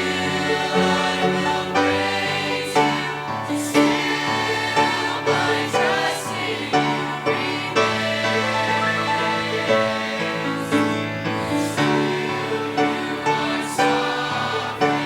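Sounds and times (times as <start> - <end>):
choir singing gospel song: 0.0 - 15.0.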